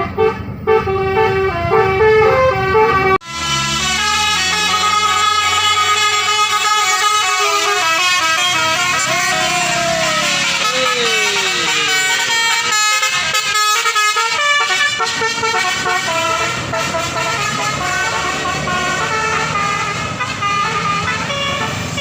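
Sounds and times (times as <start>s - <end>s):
bus musical horns playing tunes: 0.0s - 22.0s.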